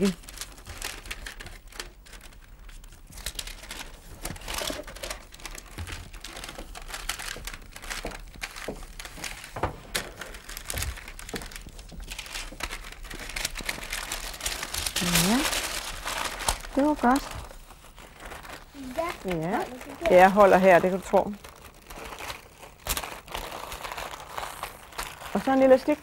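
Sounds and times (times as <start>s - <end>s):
paper crinkling and rustling: 0.0s - 26.0s.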